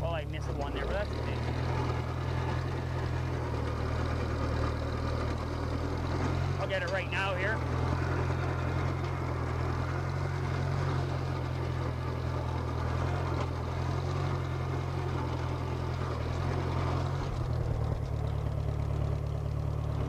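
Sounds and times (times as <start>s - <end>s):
crawler dozer engine running: 0.0s - 20.0s.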